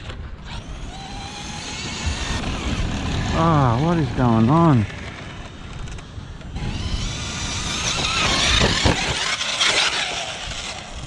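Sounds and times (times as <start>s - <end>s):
electric motor whirring: 0.4s - 11.0s.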